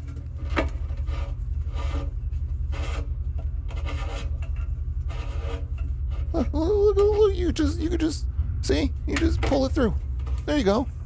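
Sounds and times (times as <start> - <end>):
steady low hum: 0.0 - 11.0
wire rubbing and scraping: 0.0 - 11.0.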